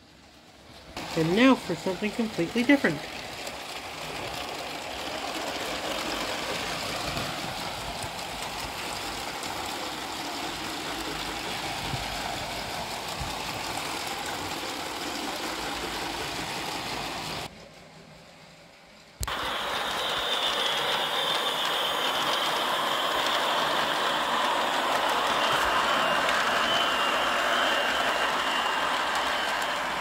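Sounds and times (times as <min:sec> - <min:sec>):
toy train motor whirring: 0:01.0 - 0:17.4, 0:19.2 - 0:30.0.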